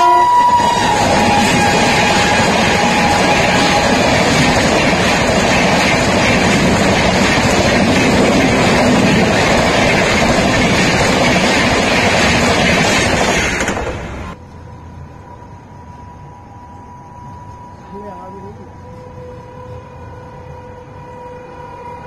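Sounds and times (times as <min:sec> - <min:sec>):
train coaches rushing past: 0:00.0 - 0:22.0.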